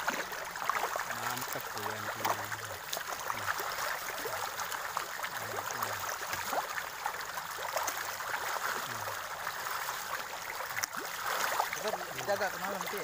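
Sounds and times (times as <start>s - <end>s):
fish splashing at water surface: 0.0s - 13.0s.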